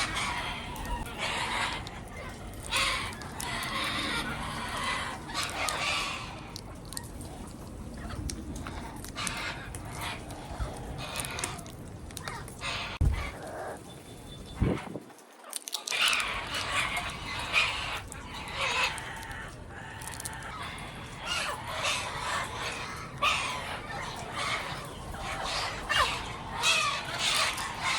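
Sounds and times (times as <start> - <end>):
parrots chattering and squawking: 0.0 - 27.9.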